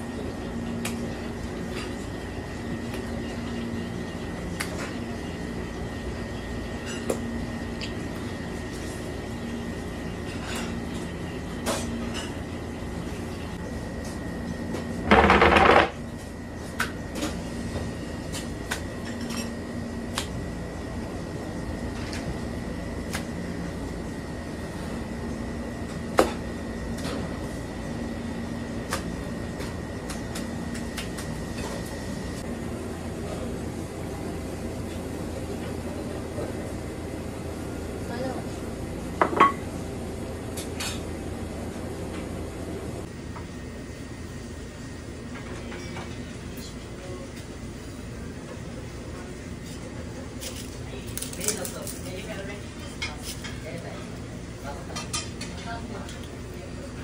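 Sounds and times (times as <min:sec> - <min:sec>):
kitchen machinery hum: 0:00.0 - 0:57.0.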